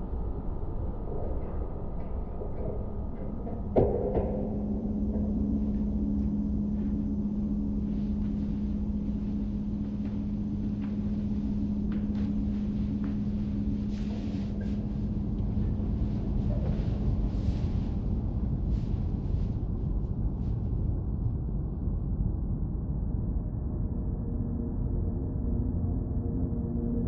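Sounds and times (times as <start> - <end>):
low rumble: 0.0 - 27.0
steady held drone tone: 0.0 - 27.0.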